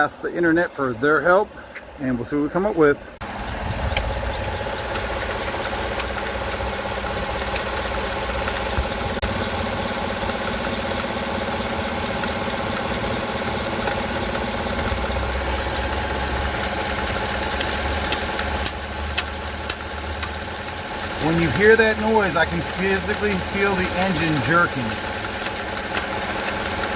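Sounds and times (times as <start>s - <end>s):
car engine idling: 0.1s - 26.9s
sharp engine clicks: 3.8s - 9.4s, 10.2s - 26.9s.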